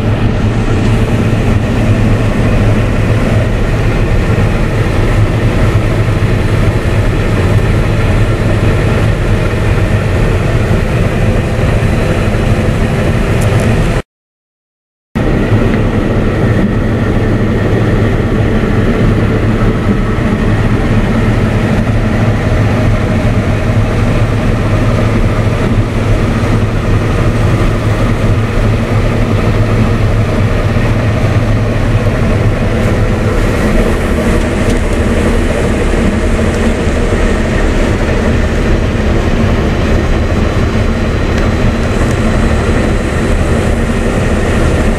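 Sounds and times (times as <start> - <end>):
combine harvester engine and threshing drone: 0.0 - 14.0, 15.2 - 44.9.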